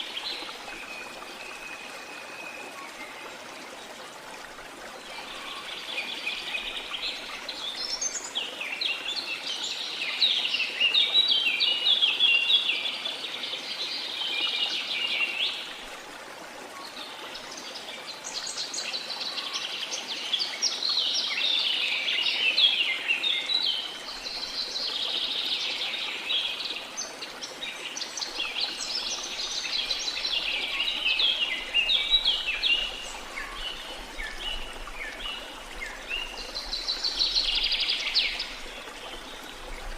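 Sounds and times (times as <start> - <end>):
flowing water hiss: 0.0 - 39.9.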